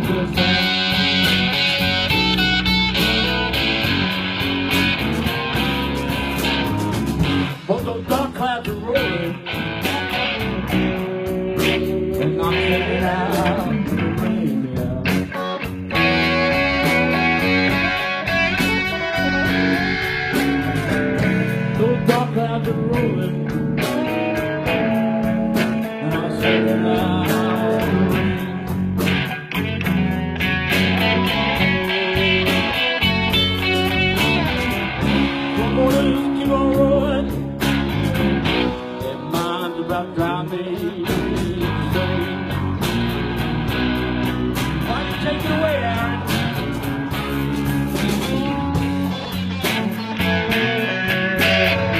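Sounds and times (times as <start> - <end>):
blues band playing: 0.0 - 51.9
electric guitar bending notes: 0.0 - 51.9.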